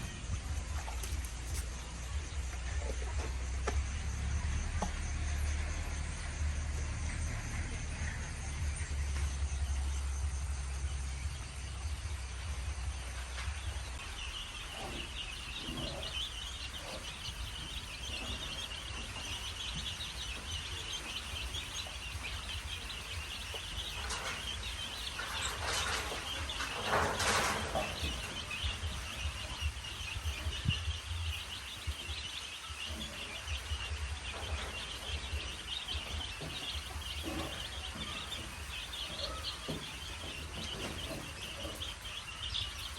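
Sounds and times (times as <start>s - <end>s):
chicks peeping: 0.0s - 42.9s
low steady rumble: 0.0s - 42.9s.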